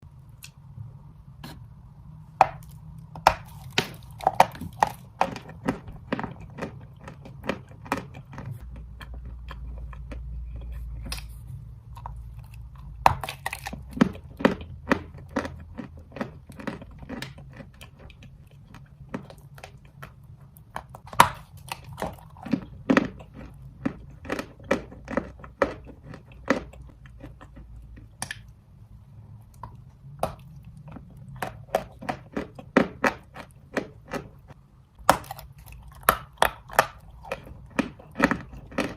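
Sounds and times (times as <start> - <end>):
faint low hum: 0.0 - 38.9
chalk crunching while chewed: 2.4 - 28.5, 29.5 - 38.9.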